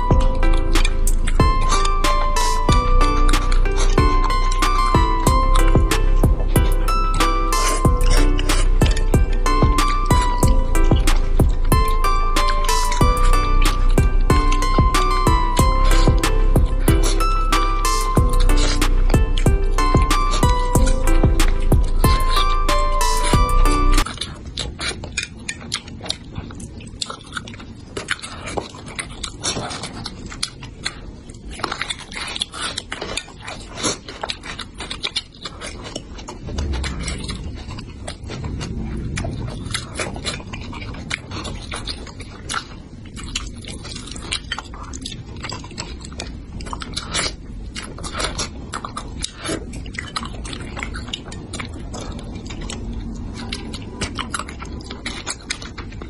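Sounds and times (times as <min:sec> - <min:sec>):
wet chewing and lip-smacking: 0:00.0 - 0:56.0.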